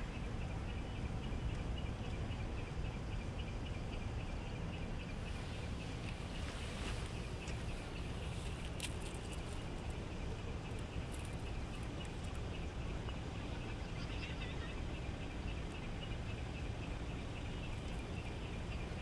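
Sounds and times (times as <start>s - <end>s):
continuous high chirping: 0.0s - 19.0s
steady low rumble: 0.0s - 19.0s.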